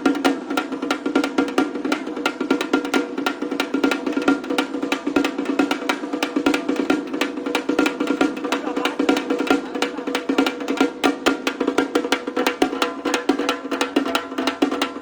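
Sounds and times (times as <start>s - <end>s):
drums fast rhythm: 0.0s - 15.0s.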